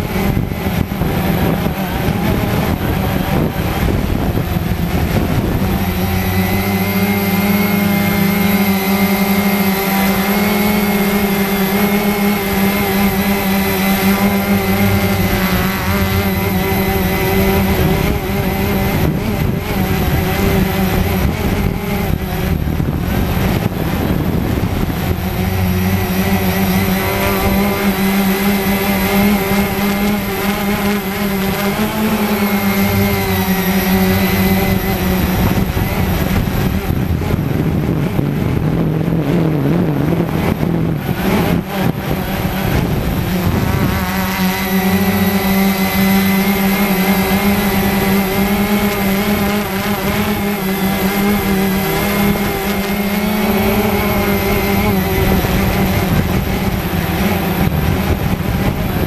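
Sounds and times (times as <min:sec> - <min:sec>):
drone motors and propellers buzzing: 0:00.0 - 0:59.0.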